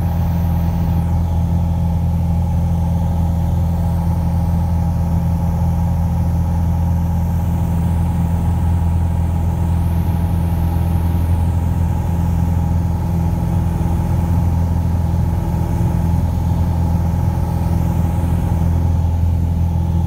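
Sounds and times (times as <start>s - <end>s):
light aircraft engine drone: 0.0s - 20.0s.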